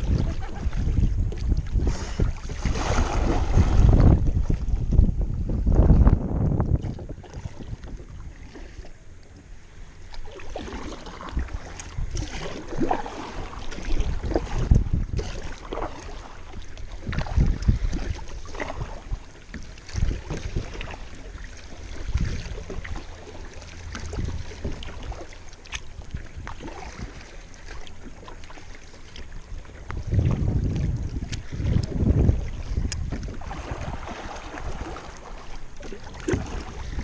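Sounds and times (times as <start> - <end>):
wind on microphone: 0.0 - 8.9, 10.5 - 27.8, 29.1 - 37.0
paddle splashing in water: 0.0 - 37.0.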